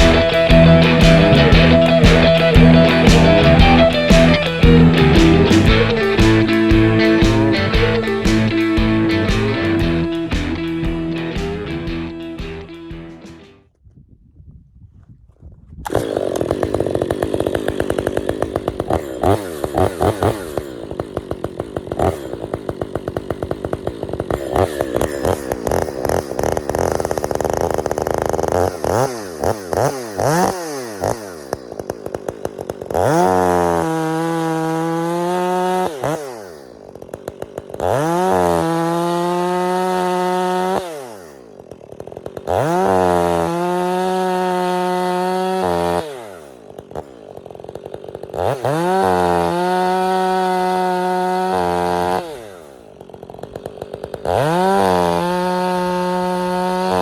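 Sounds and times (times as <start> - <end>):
chainsaw cutting log: 0.0 - 13.6, 15.8 - 57.0.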